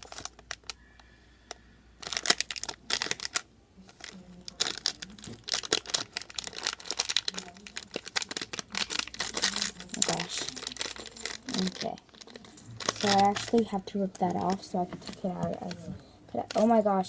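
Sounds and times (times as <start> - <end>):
plastic packaging crinkling: 0.0 - 0.8, 2.0 - 17.0.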